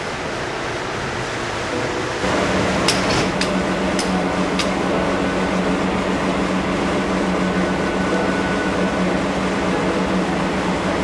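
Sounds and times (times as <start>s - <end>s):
train machinery droning: 0.0s - 11.0s.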